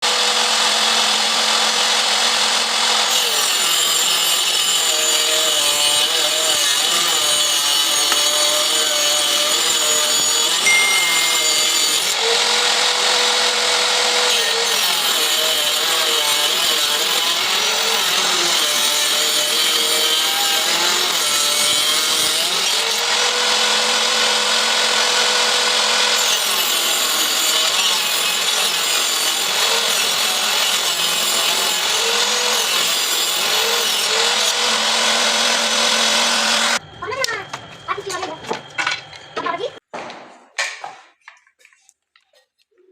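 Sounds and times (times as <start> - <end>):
electric saw cutting wood: 0.0 - 36.8.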